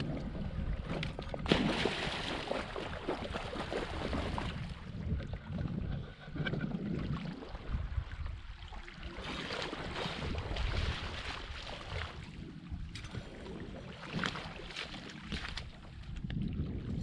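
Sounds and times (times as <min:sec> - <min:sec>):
wading through shallow water: 0:00.0 - 0:17.0
wind on the microphone: 0:00.0 - 0:17.0.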